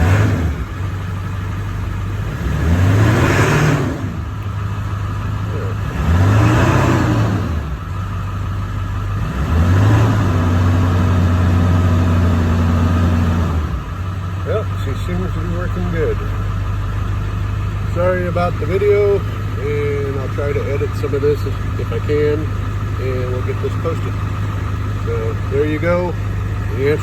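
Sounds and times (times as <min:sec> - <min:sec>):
diesel engine idling and revving: 0:00.0 - 0:27.0.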